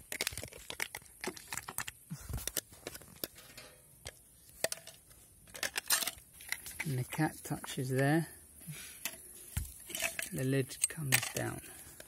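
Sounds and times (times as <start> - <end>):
metallic clicks and scrapes: 0.0 - 7.0, 9.0 - 12.0.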